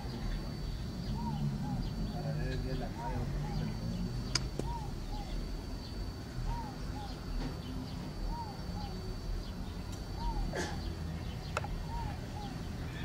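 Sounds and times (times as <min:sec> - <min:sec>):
bird calling: 0:00.0 - 0:13.0
low outdoor rumble: 0:00.0 - 0:13.0.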